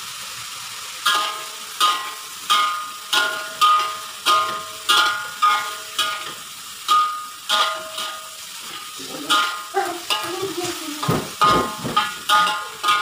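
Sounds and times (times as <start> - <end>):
cabbage sizzling in hot oil: 0.0 - 13.0
metal spatula scraping a wok: 1.1 - 10.7, 11.3 - 13.0.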